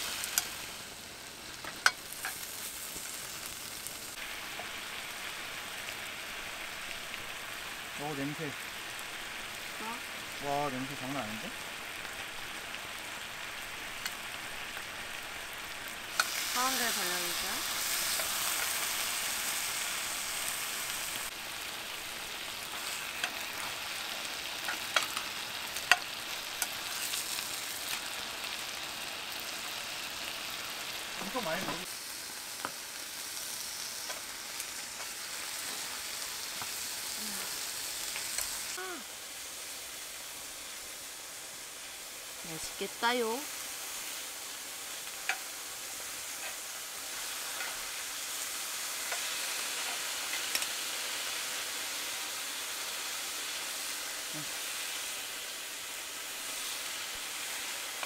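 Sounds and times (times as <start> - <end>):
food sizzling in hot pan: 0.0 - 58.0.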